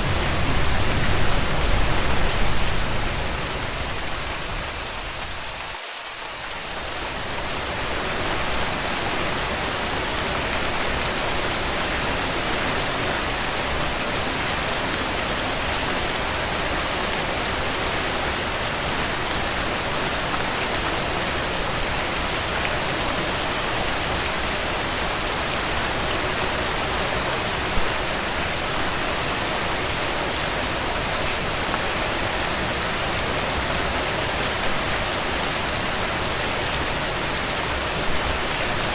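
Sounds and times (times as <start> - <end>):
rain falling on a tent: 0.0 - 38.9.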